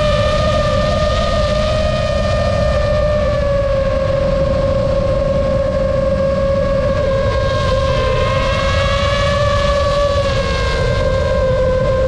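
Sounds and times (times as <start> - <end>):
drone motors whining: 0.0 - 12.0
rumbling wind noise: 0.0 - 12.0.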